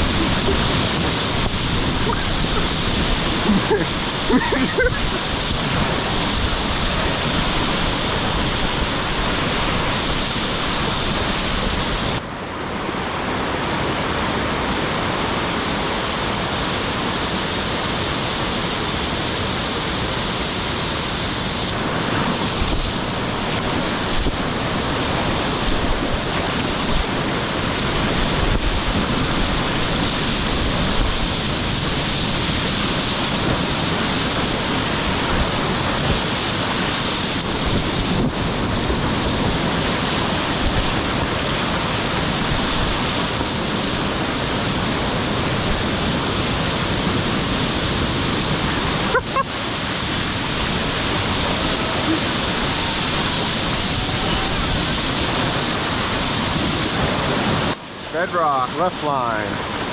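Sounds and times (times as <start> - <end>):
wind buffeting microphone: 0.0 - 12.3, 20.4 - 58.1
roaring whitewater rapids: 0.0 - 59.9.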